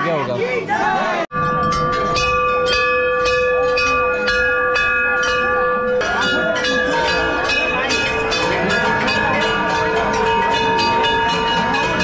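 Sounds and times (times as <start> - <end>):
crowd murmur: 0.0 - 12.0
brass bells ringing: 1.3 - 12.0.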